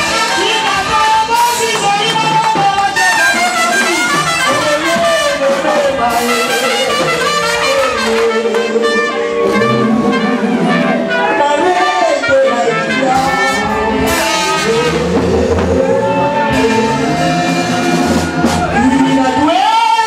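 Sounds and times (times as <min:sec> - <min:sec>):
woman singing into a microphone: 0:00.0 - 0:17.2
church praise band: 0:00.0 - 0:20.0
trumpet melody: 0:00.0 - 0:20.0.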